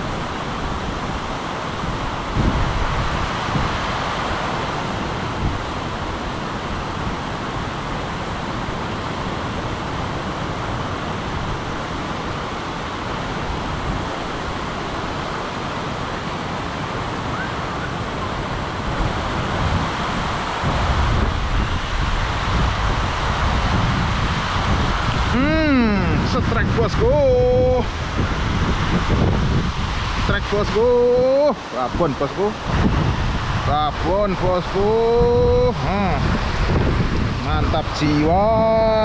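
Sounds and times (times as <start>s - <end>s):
strong wind rushing: 0.0s - 39.0s.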